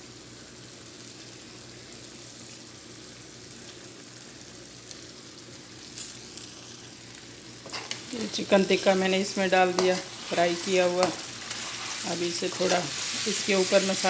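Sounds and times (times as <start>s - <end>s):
gravy sizzling in a pan: 0.0s - 14.0s.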